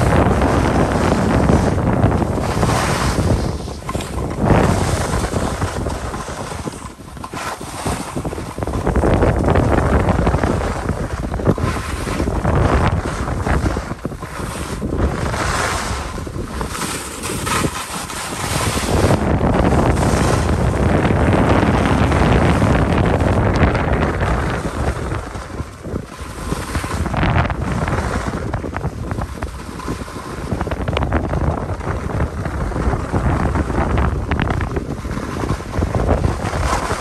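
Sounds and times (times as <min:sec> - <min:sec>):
skis scraping on packed snow: 0:00.0 - 0:37.0
wind buffeting microphone: 0:00.0 - 0:37.0.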